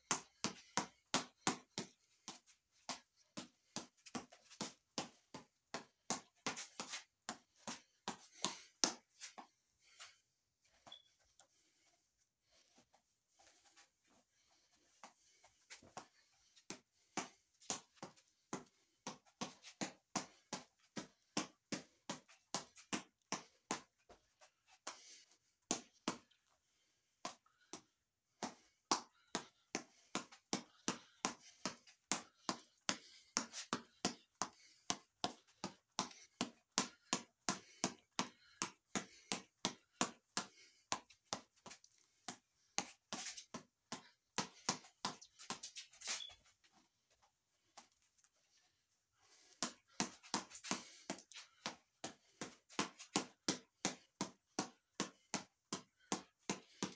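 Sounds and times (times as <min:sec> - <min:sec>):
fists slapping reflex ball: 0:00.0 - 0:10.2, 0:14.4 - 0:26.6, 0:27.2 - 0:46.4, 0:49.2 - 0:56.9.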